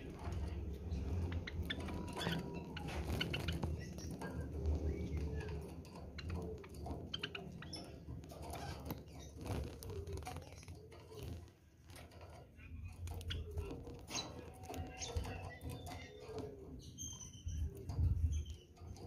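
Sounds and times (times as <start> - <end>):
sparrows chirping and clucking: 0.0 - 19.0
wing flutters: 0.0 - 19.0.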